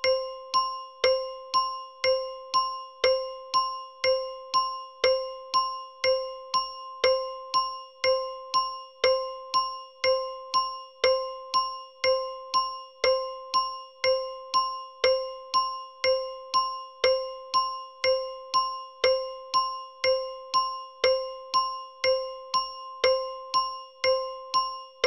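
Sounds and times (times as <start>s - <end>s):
bell timer ticking: 0.0s - 25.0s.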